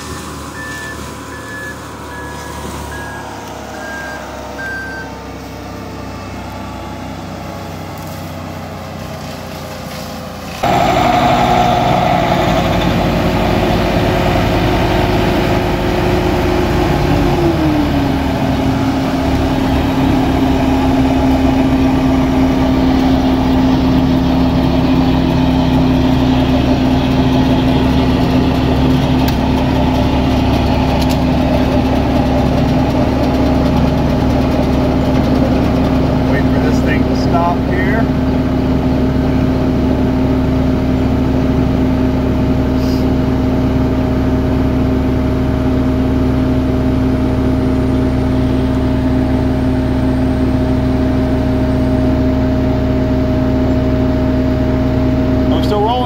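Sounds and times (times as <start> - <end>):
track loader diesel engine: 0.0 - 56.0.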